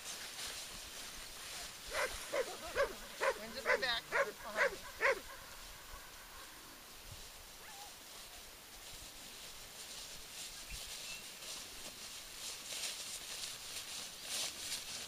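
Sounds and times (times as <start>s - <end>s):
faint outdoor ambience: 0.0s - 15.0s
footsteps swishing through grass: 0.0s - 15.0s.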